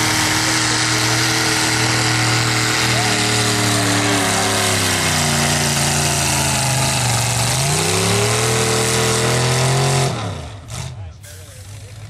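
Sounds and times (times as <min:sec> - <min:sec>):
truck engine revving under load: 0:00.0 - 0:12.0.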